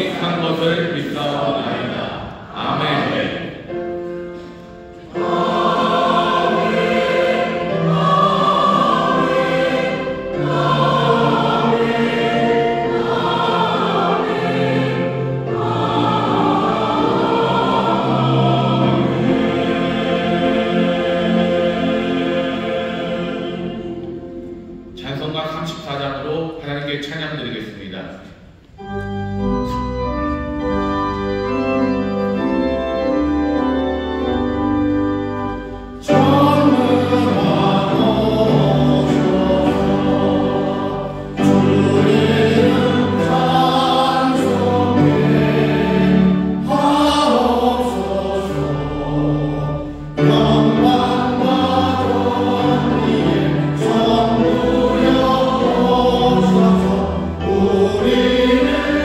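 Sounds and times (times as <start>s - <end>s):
many voices singing a hymn: 0.0s - 25.0s, 35.5s - 59.0s
organ-like keyboard chords: 0.0s - 25.4s, 28.6s - 59.0s.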